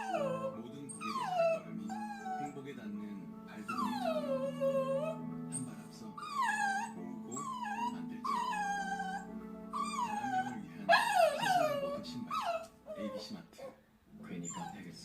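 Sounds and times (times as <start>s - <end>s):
dog whimpering: 0.0s - 2.6s, 3.6s - 13.8s, 14.4s - 15.0s.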